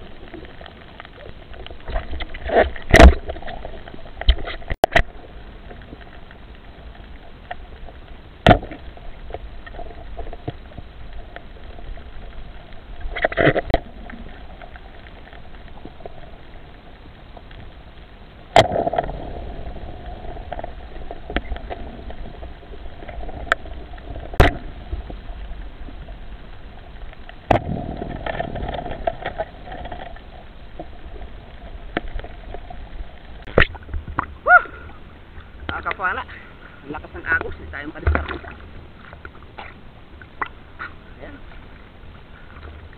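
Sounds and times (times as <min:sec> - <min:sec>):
underwater hum: 0:00.0 - 0:42.9.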